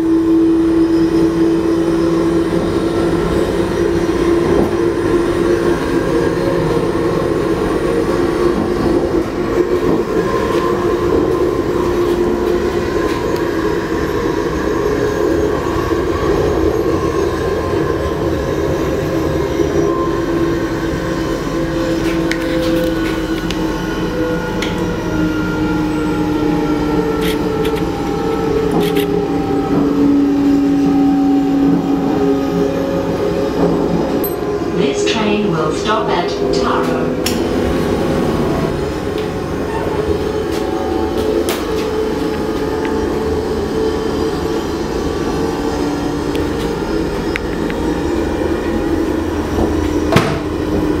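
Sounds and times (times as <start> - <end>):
constant low hum: 0.0 - 51.0
diesel railcar droning: 0.0 - 51.0
train rumbling: 0.0 - 51.0.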